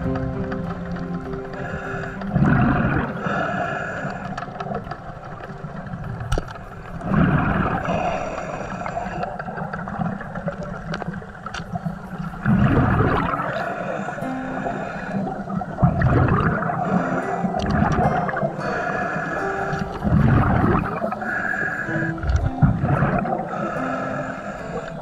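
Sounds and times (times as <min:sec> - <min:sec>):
exhaled bubbles rushing: 0:00.8 - 0:04.2, 0:05.2 - 0:25.0.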